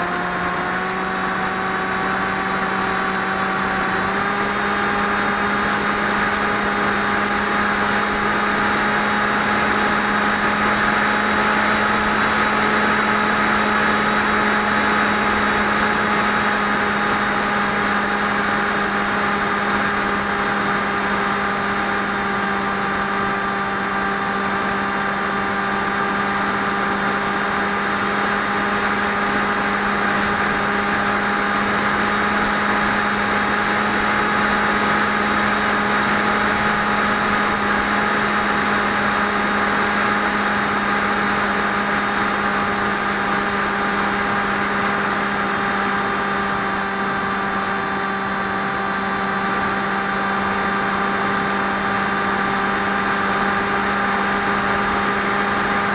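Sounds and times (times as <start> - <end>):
electric motor propeller buzzing: 0.0 - 55.9.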